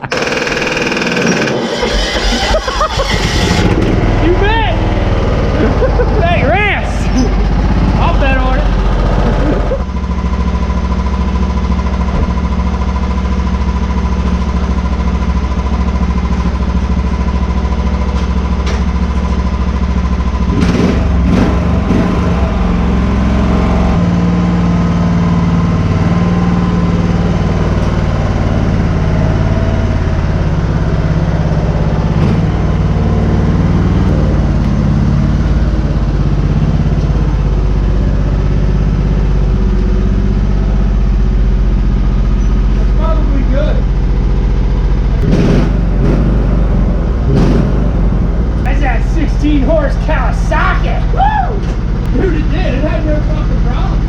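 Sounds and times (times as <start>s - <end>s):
vehicle engine running under load: 0.0s - 54.0s.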